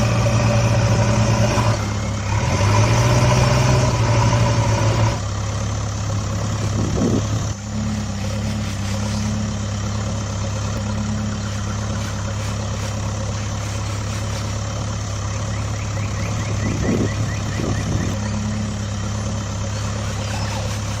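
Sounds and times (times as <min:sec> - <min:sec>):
heavy truck engine droning: 0:00.0 - 0:21.0.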